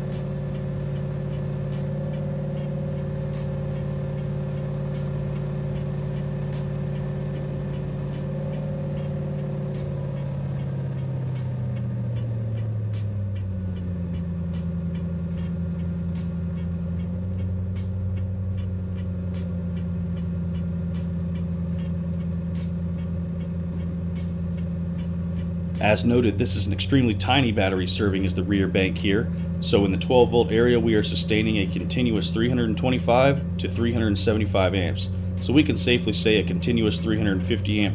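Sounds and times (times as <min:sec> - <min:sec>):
car engine running: 0:00.0 - 0:37.9
faint regular ticking: 0:00.0 - 0:37.9.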